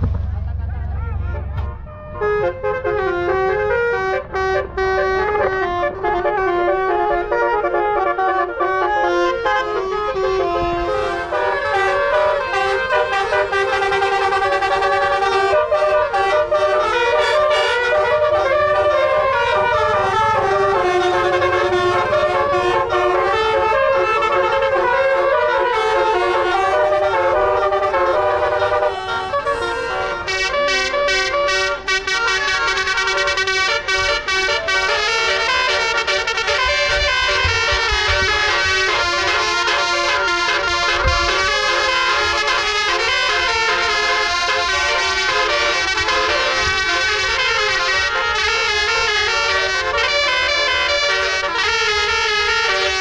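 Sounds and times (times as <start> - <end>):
air horns playing a melody: 1.0 - 53.0.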